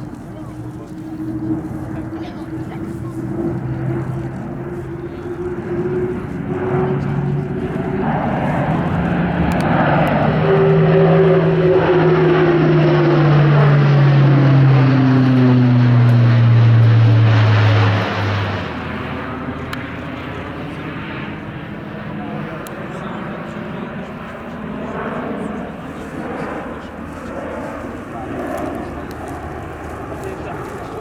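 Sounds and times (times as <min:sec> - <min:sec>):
turboprop aircraft droning low pass: 0:00.0 - 0:31.0.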